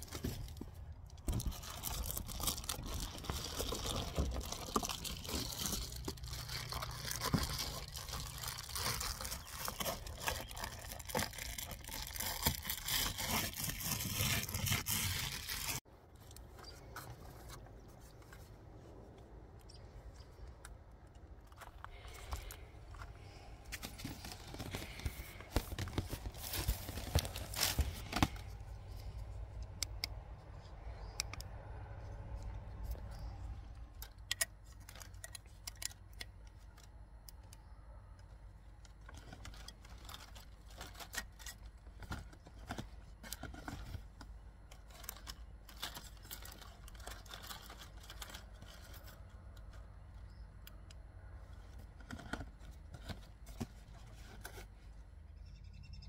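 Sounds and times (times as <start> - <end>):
clicks and scrapes of handling: 0.0 - 55.0.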